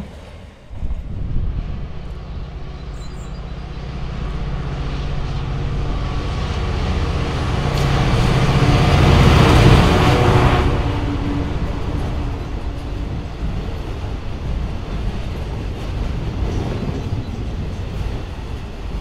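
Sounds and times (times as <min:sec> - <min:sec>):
diesel locomotive engine: 0:00.0 - 0:19.0
train rumble: 0:00.0 - 0:19.0.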